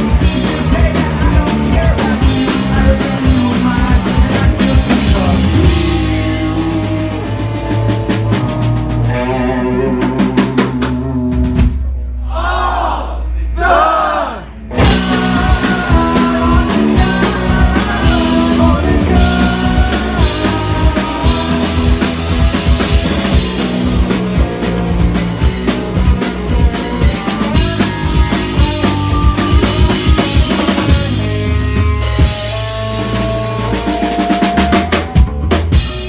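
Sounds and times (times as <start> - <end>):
electric guitar: 0.0 - 11.9, 14.7 - 36.0
drum kit beat: 0.0 - 12.6, 14.7 - 36.0
bass guitar: 0.0 - 36.0.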